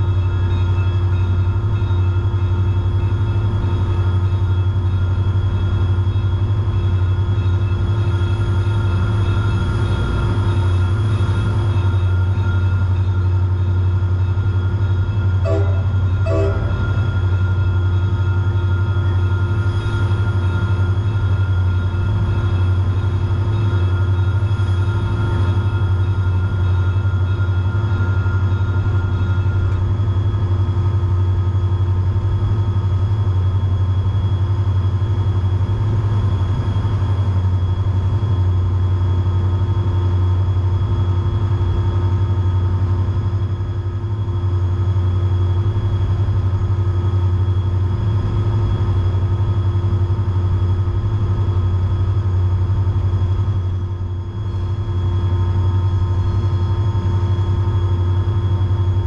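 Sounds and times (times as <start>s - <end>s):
diesel locomotive engine drone: 0.0s - 59.0s
steady whining tones: 0.0s - 59.0s
train running noise: 0.0s - 59.0s.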